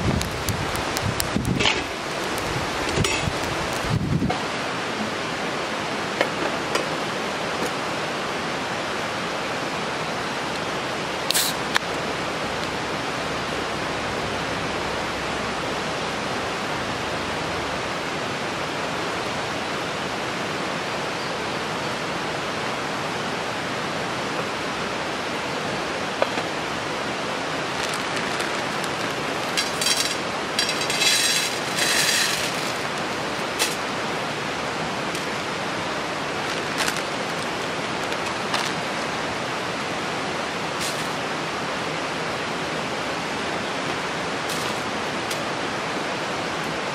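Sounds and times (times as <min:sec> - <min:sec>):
stream rushing: 0:00.0 - 0:46.9.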